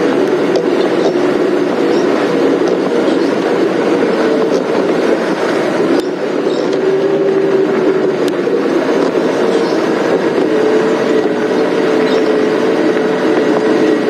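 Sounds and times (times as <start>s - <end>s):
vehicle engine drone: 0.0s - 14.0s
vehicle rattles and clinks: 0.0s - 14.0s.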